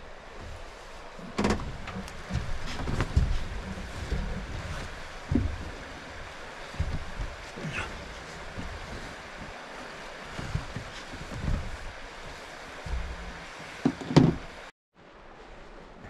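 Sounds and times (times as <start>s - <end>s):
creek rushing: 0.0s - 16.0s
thumps and shuffles on a mattress: 0.4s - 14.6s.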